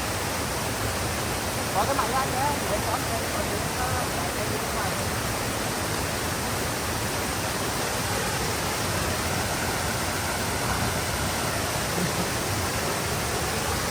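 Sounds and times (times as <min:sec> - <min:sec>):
stream water rushing: 0:00.0 - 0:13.9.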